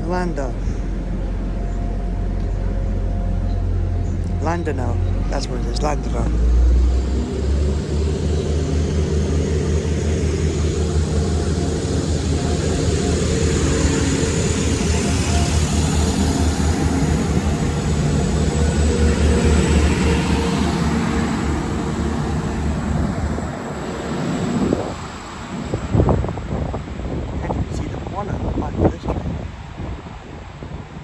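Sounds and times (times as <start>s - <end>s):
diesel engine drone: 0.0s - 31.0s
train wheels rumbling on track: 0.0s - 31.0s.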